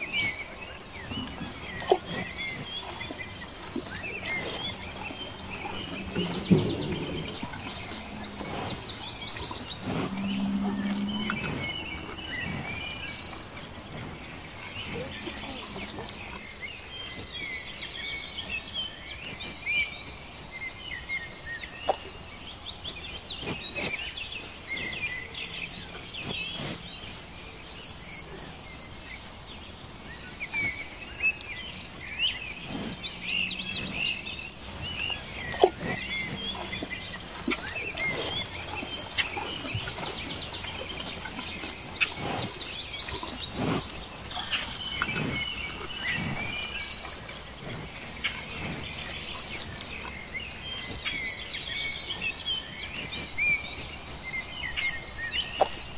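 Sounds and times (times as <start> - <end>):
insects: 0.0 - 55.9
small birds chirping: 0.0 - 55.9.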